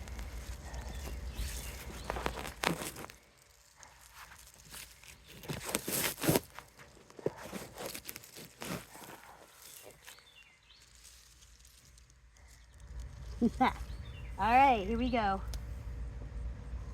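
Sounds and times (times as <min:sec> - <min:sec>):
person moving about outdoors: 0:00.0 - 0:16.9.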